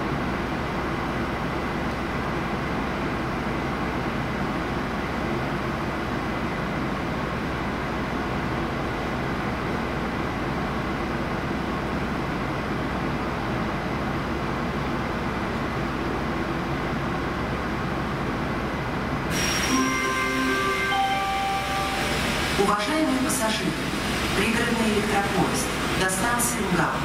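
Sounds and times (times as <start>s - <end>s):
train rumbling over tracks: 0.0s - 27.0s.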